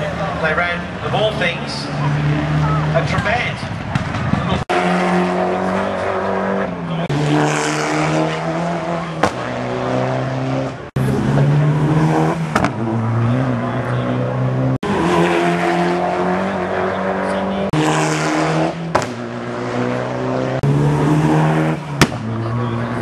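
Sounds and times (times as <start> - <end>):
rally car engines running hard: 0.0 - 23.0.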